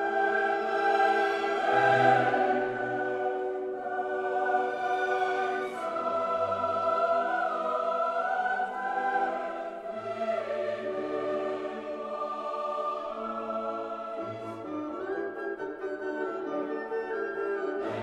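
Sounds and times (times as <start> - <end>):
choir singing sustained chords: 0.0 - 15.8, 17.7 - 18.0.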